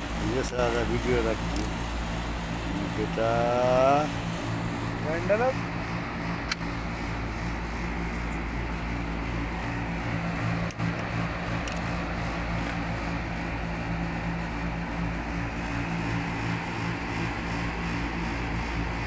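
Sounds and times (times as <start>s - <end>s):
low mechanical hum of machinery: 0.0s - 19.0s.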